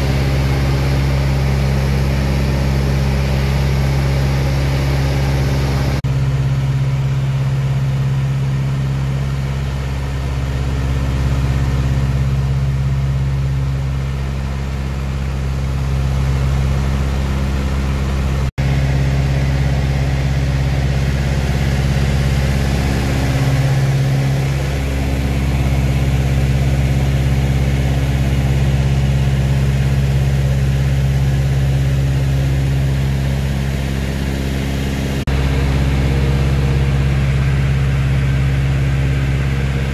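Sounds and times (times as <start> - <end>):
aircraft engines droning: 0.0 - 39.9.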